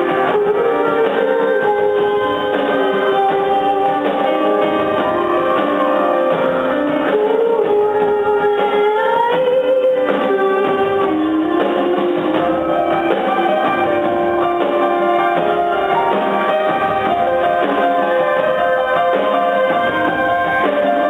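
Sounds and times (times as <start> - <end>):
guitar with sliding notes: 0.0 - 21.0
live band playing: 0.0 - 21.0.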